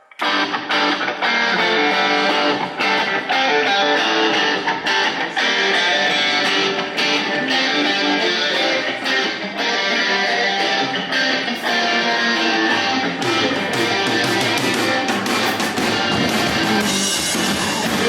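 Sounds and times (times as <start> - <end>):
indie rock band playing live: 0.0 - 18.0
strummed electric guitars: 0.0 - 18.0.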